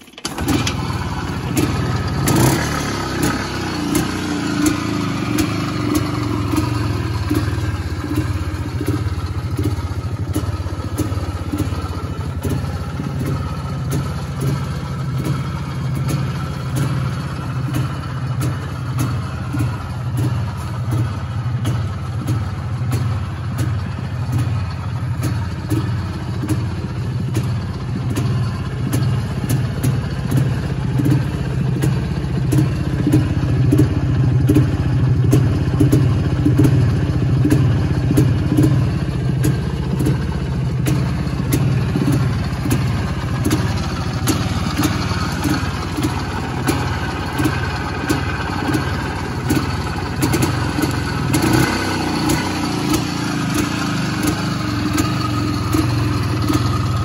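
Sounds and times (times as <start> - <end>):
two-stroke engine idling: 0.0 - 57.0.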